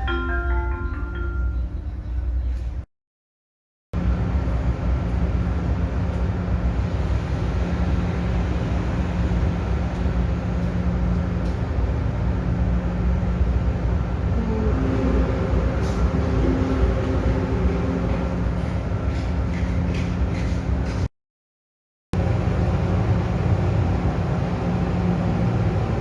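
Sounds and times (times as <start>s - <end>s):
ferry engines droning: 0.0s - 2.9s, 4.0s - 21.1s, 22.2s - 26.0s.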